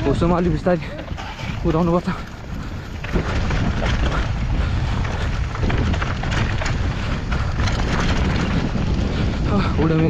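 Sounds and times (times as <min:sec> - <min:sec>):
mountain bike rattling on dirt trail: 0:00.0 - 0:10.0
wind buffeting microphone: 0:00.0 - 0:10.0.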